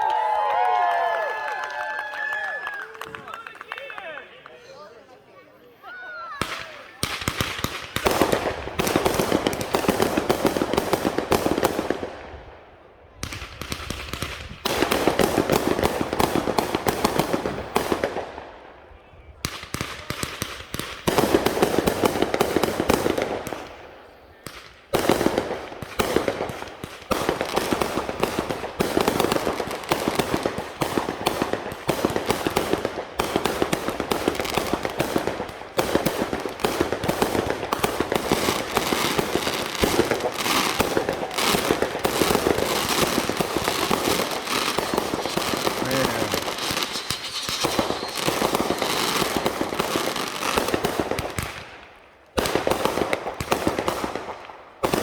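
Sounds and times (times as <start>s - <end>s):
fireworks popping and banging: 6.3s - 12.4s, 13.2s - 18.4s, 19.4s - 23.8s, 24.4s - 55.0s.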